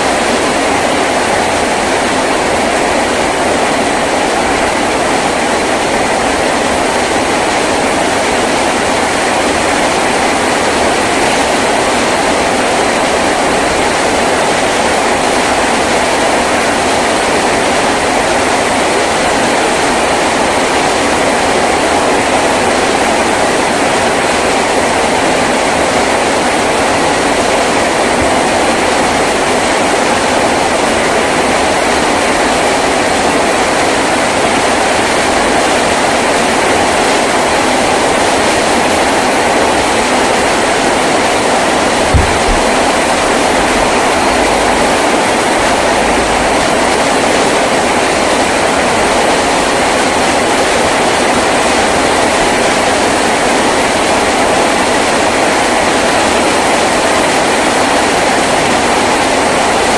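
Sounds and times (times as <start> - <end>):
heavy rain on a tin roof: 0.0 - 59.9.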